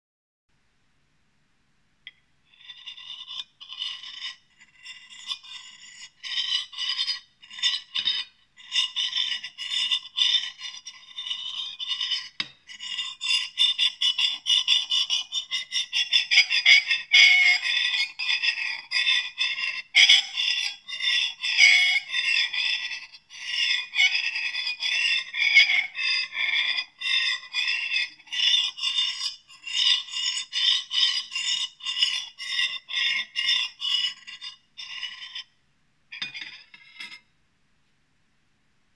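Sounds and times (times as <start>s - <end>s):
knife scraping a plate: 2.5s - 35.5s, 36.1s - 37.3s.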